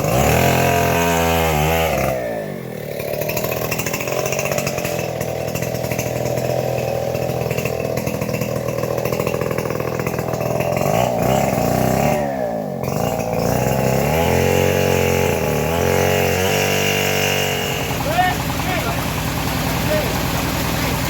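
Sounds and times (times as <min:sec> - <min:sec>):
small engine saw running: 0:00.0 - 0:21.0.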